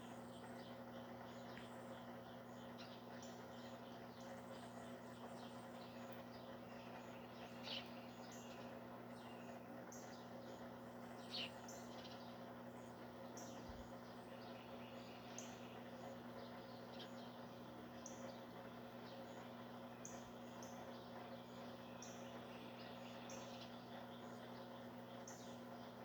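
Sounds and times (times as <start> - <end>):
faint bird chirps: 0.0 - 26.0
steady low hum: 0.0 - 26.0.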